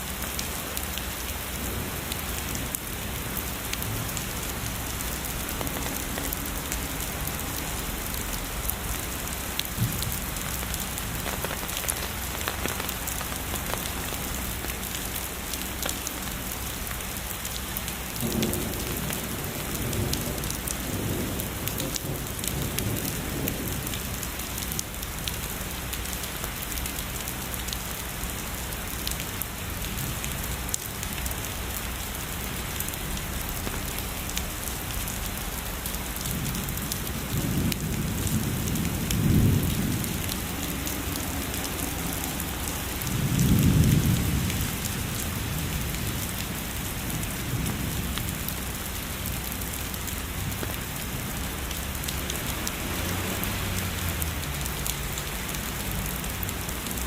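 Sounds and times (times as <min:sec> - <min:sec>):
heavy rain hitting a surface: 0:00.0 - 0:57.0.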